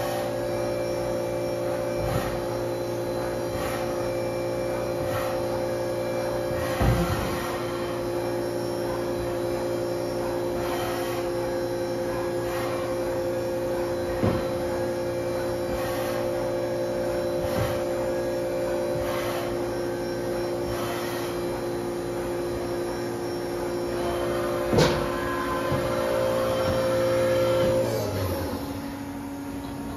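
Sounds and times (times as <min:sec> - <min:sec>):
machine hum with whining tones: 0:00.0 - 0:29.9.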